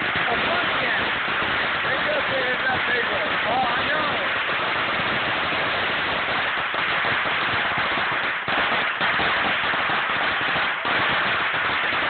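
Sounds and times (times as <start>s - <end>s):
firecrackers crackling: 0.0s - 12.0s.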